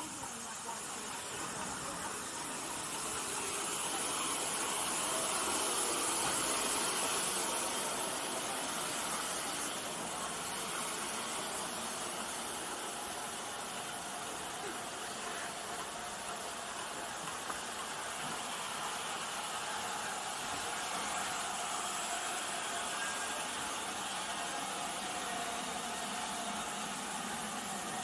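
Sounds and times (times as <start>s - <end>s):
steam locomotive hissing steam: 0.0s - 28.0s.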